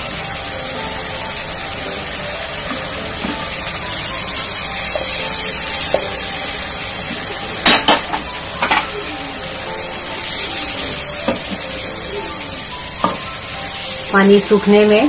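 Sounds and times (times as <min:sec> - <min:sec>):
sauce sizzling in a pan: 0:00.0 - 0:15.0.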